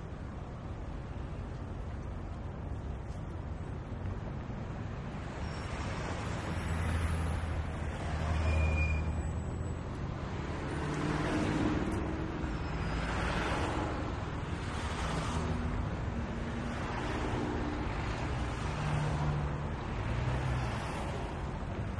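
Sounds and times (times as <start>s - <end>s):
city street traffic: 0.0s - 21.9s
heavy vehicles rumbling past: 0.0s - 21.9s.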